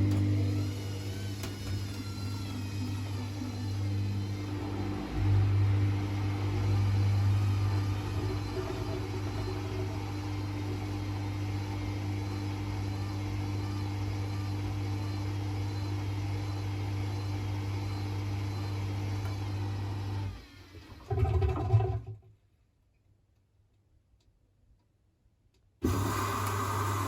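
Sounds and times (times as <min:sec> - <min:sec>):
washing machine motor hum: 0:00.0 - 0:22.2, 0:25.8 - 0:27.0.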